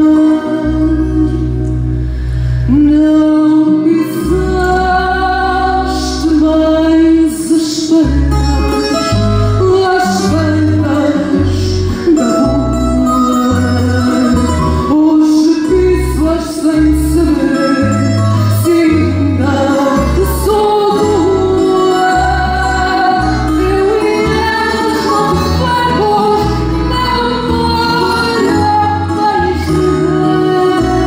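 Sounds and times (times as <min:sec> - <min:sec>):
guitar accompaniment: 0:00.0 - 0:31.0
plucked bass line: 0:00.0 - 0:31.0
woman singing into a microphone: 0:00.0 - 0:31.0.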